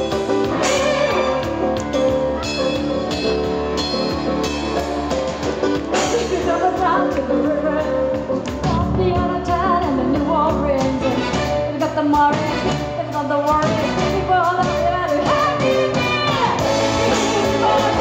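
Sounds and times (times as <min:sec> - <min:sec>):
live rock band with horns: 0:00.0 - 0:18.0.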